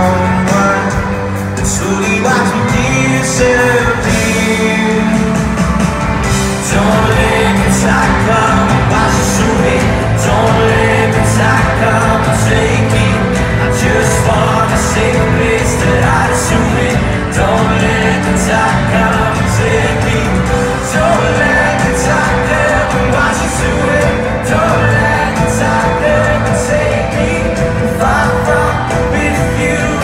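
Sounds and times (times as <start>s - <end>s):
drums: 0.0s - 30.0s
guitar: 0.0s - 30.0s
live pop-rock band: 0.0s - 30.0s
male lead vocal: 0.0s - 30.0s.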